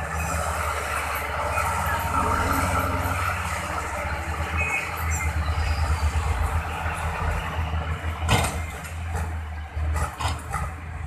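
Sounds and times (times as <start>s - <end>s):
diesel engines rumbling: 0.0s - 11.0s.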